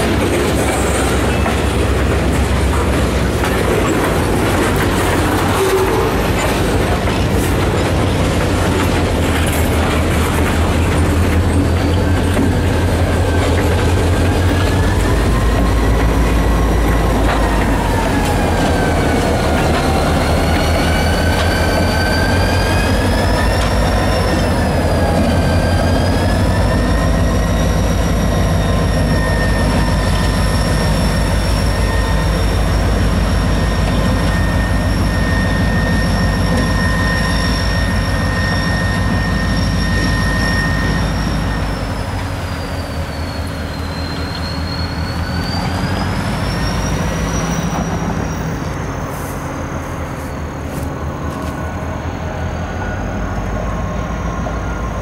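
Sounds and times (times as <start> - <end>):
wheels clacking over rail joints: 0.0 - 49.1
freight train rumbling past: 0.0 - 55.0
wheel flanges squealing on rail: 0.0 - 55.0.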